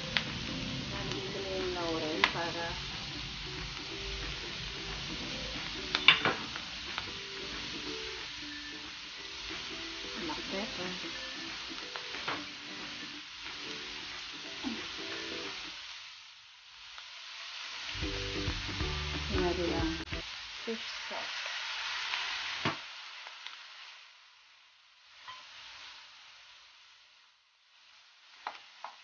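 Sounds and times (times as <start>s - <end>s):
meat sizzling in a wok: 0.0s - 29.0s.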